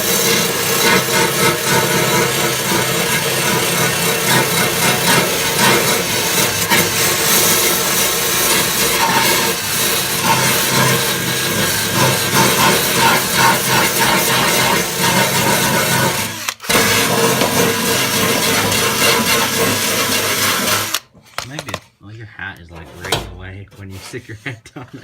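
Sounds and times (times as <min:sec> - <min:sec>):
electric drill whirring: 0:00.0 - 0:21.0
wire wheel scraping metal: 0:00.0 - 0:21.0.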